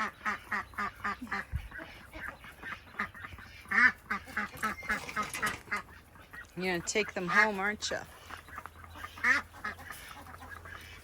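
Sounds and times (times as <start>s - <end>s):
duck quacking: 0.0s - 11.0s.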